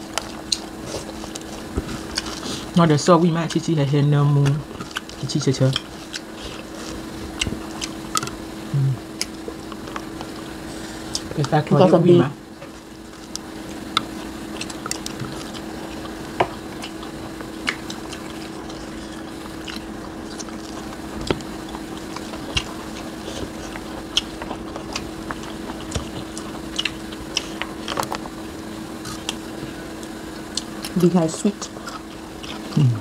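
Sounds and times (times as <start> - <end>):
people chewing with wet smacks: 0.0 - 33.0
steady low hum: 0.0 - 33.0.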